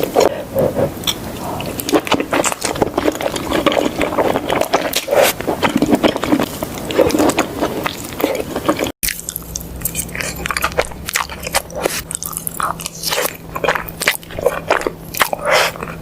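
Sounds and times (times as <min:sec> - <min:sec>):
low steady hum: 0:00.0 - 0:16.0
person chewing food: 0:00.0 - 0:16.0.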